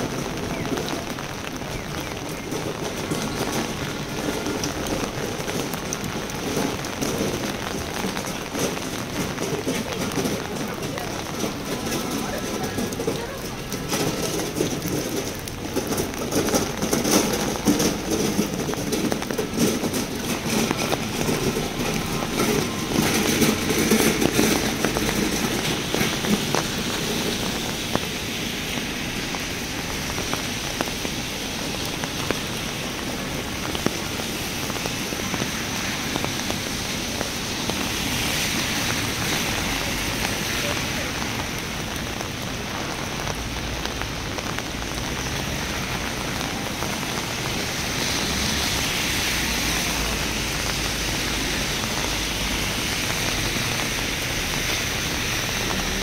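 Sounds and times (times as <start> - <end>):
heavy rain on a street: 0.0 - 56.0
street noise: 0.0 - 56.0.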